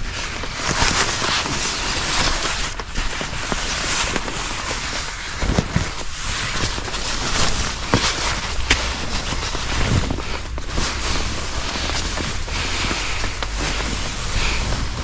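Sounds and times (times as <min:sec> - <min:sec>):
nylon camping gear rustling: 0:00.0 - 0:15.0.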